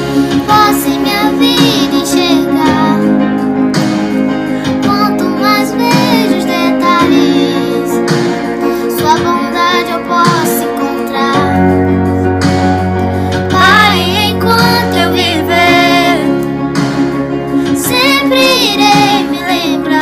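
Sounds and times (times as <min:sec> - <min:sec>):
guitar accompaniment: 0:00.0 - 0:20.0.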